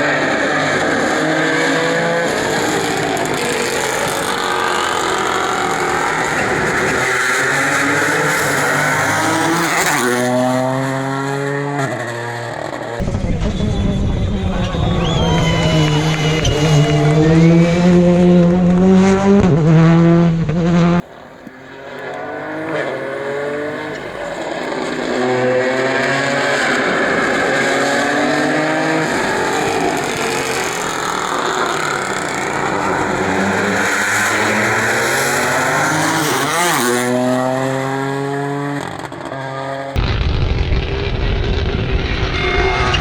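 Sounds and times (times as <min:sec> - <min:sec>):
rally car engine at full throttle: 0:00.0 - 0:43.0.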